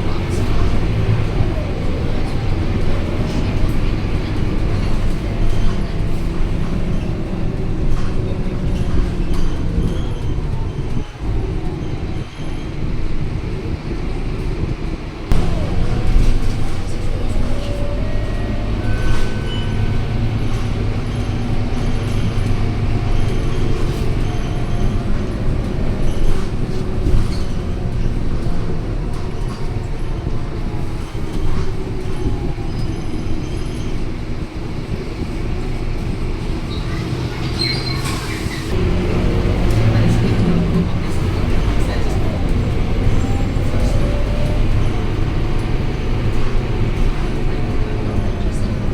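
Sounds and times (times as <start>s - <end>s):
bus engine drone: 0.0s - 48.9s
drivetrain whine: 0.0s - 48.9s.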